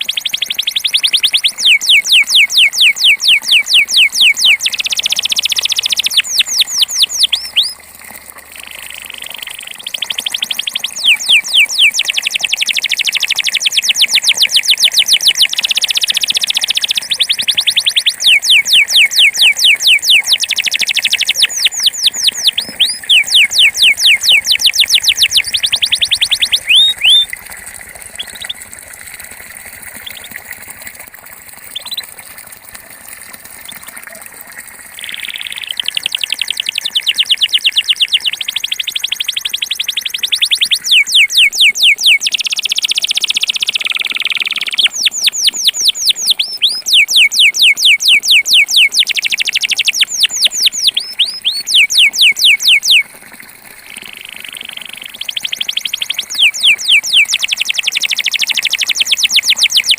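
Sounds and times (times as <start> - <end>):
canary singing trills: 0.0 - 7.8, 9.7 - 27.4, 28.1 - 28.6, 30.0 - 30.4, 31.7 - 32.2, 35.0 - 53.0, 54.1 - 59.9.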